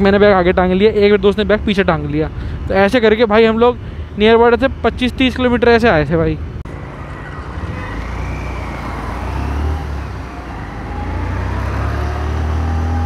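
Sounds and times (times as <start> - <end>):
passing traffic: 0.0 - 13.0
wind and road noise: 0.0 - 13.0.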